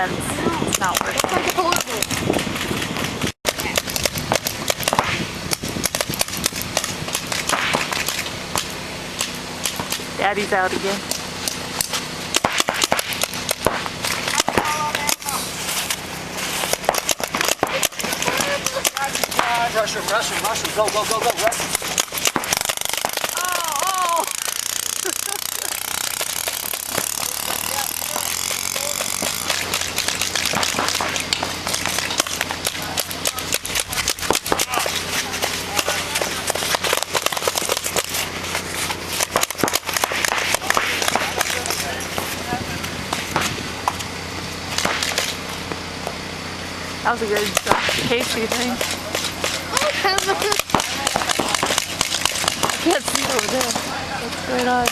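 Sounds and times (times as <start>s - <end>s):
paintball markers firing: 0.5s - 10.4s, 11.1s - 42.4s, 43.1s - 44.1s, 44.7s - 45.4s, 47.3s - 54.9s.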